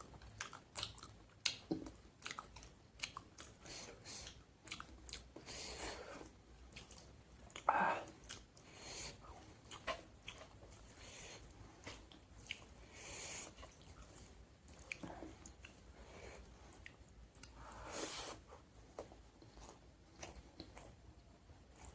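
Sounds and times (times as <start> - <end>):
person chewing food: 0.0 - 21.9.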